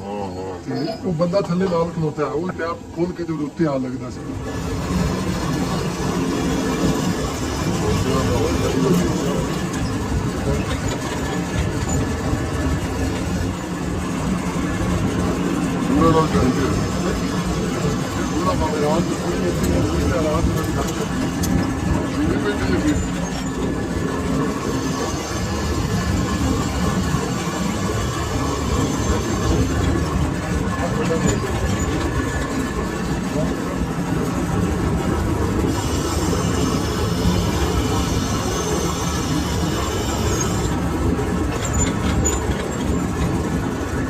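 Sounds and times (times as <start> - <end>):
workshop machine rumbling: 1.1 - 44.0.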